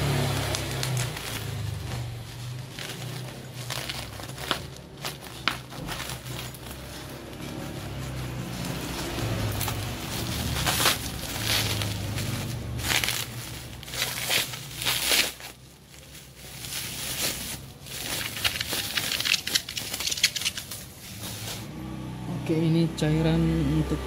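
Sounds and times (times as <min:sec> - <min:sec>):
plastic wrapping crinkling: 0:00.0 - 0:21.7.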